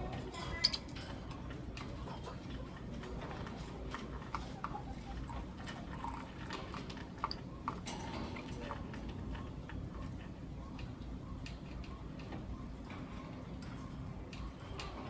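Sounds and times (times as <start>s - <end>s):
birds pecking with clicks and taps: 0.0s - 15.0s.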